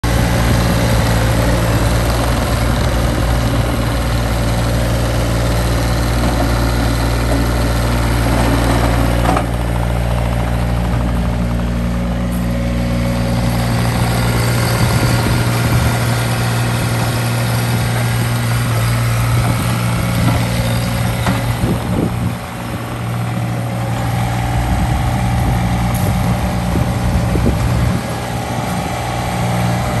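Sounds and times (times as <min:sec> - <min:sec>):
mini skid steer engine running: 0:00.0 - 0:30.0.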